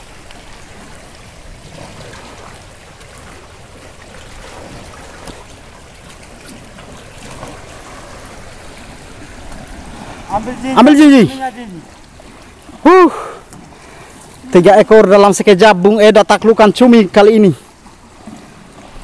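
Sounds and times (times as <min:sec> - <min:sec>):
sea water lapping: 0:00.0 - 0:19.0.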